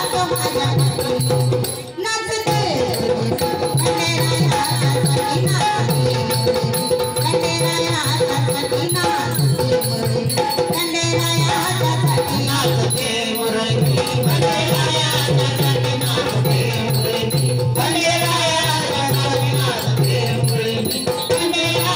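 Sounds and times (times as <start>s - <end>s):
shaken rattle percussion: 0.0s - 21.9s.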